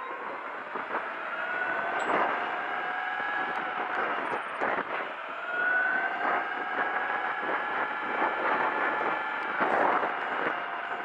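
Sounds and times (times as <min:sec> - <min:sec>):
wind rushing past microphone: 0:00.0 - 0:11.0.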